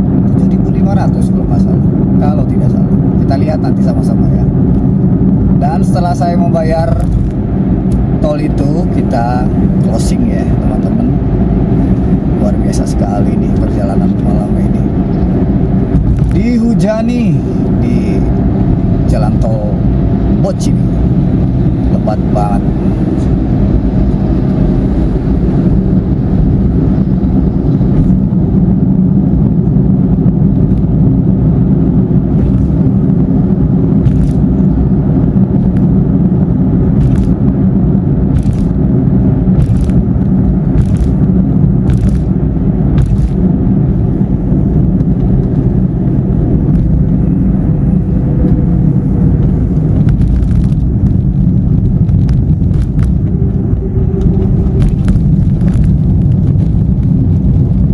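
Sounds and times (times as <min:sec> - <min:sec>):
car tyre and road noise: 0:00.0 - 0:57.9.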